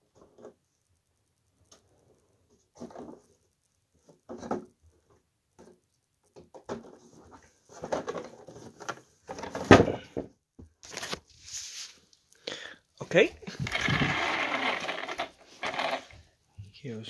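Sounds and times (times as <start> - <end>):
toy cars handled on carpet: 0.1 - 9.7, 10.6 - 12.4, 13.4 - 16.3.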